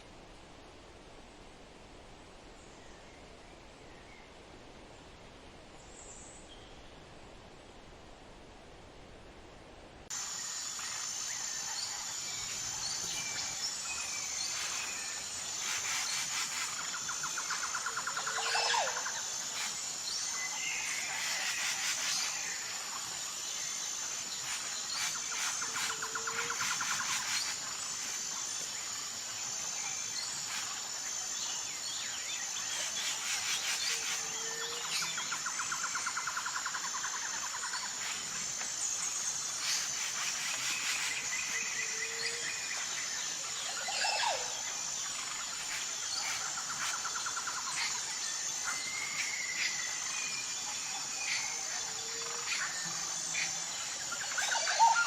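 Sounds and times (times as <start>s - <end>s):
insects trilling: 10.1s - 55.0s.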